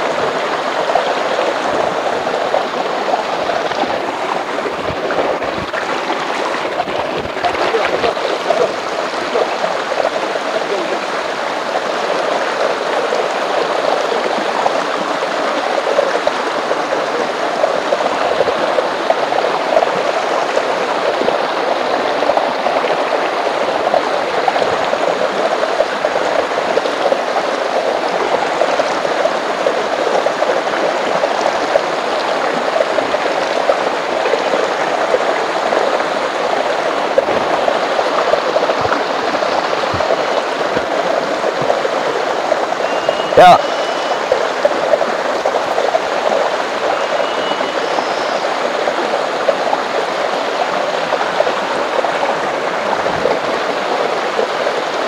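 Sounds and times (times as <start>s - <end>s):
stream flowing over stones: 0.0s - 55.0s.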